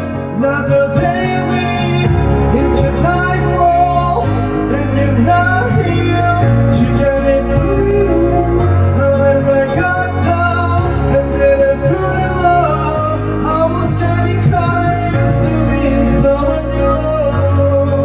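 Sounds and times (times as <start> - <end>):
karaoke backing track: 0.0 - 18.0
man singing into a microphone: 0.0 - 18.0.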